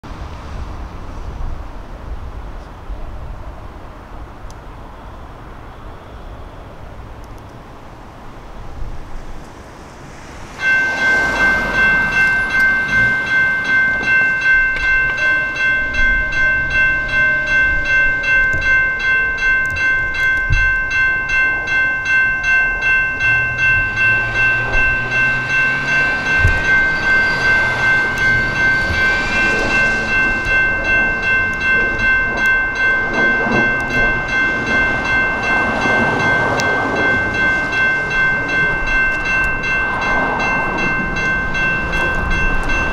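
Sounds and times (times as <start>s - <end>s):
railroad crossing warning bell: 8.5s - 42.9s.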